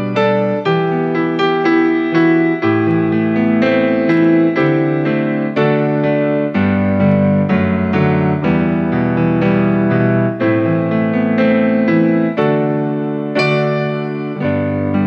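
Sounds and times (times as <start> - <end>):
piano keyboard music: 0.0 - 15.0.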